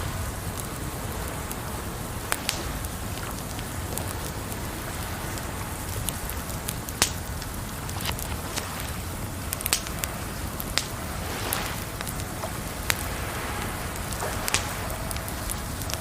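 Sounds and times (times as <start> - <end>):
running water: 0.0 - 16.0
wood fire crackling and popping: 0.0 - 16.0.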